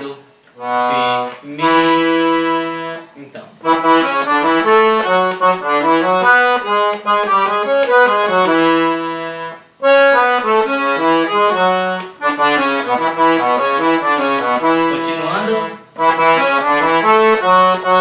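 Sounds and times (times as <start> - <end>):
piano accordion melody: 0.0 - 18.0.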